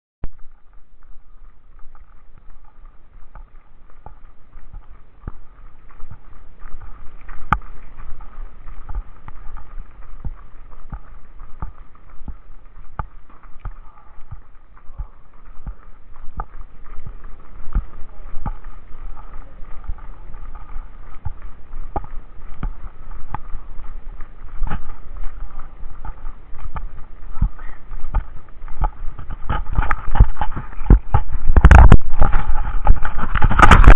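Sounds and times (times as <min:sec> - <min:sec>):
constant rushing noise: 0:00.2 - 0:33.9
footsteps on dirt road: 0:00.2 - 0:33.9.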